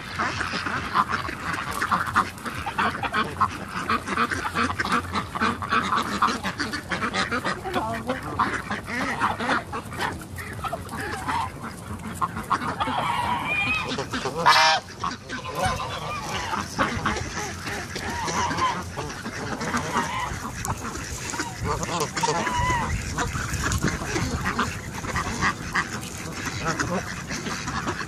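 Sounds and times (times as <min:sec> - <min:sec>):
geese honking: 0:00.0 - 0:28.0.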